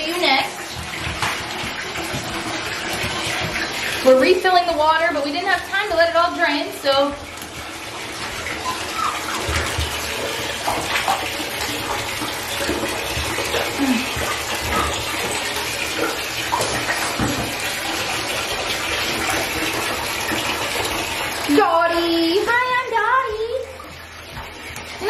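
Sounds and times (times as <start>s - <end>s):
tap water running into bathtub: 0.0s - 25.0s.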